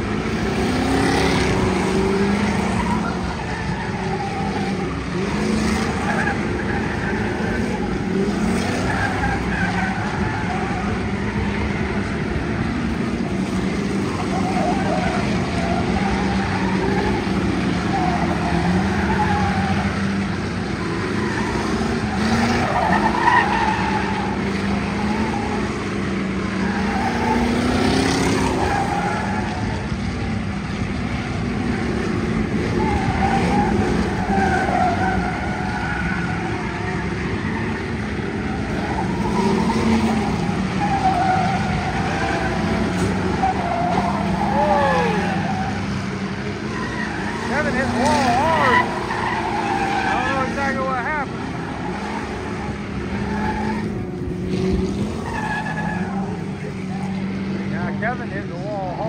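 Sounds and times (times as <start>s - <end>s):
race car engines revving: 0.0s - 59.0s
tires skidding: 0.0s - 59.0s.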